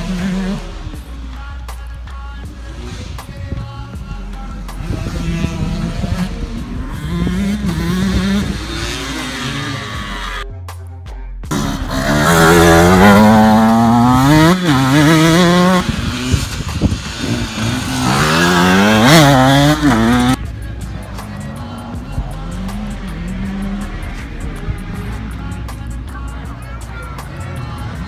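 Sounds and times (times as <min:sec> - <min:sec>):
dirt bike engine revving: 0:00.0 - 0:10.4, 0:11.5 - 0:26.2.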